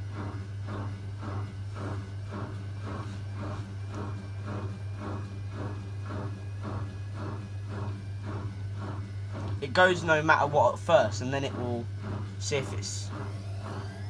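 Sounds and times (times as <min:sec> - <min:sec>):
drain pump humming: 0:00.0 - 0:14.0
washing machine drum swishing: 0:00.0 - 0:14.0.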